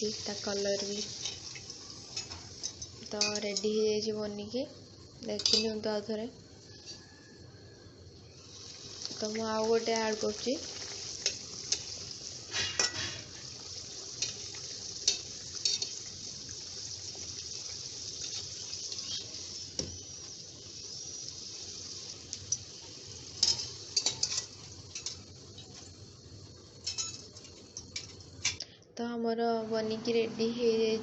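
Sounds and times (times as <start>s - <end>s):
food sizzling in hot oil: 0.0s - 28.6s.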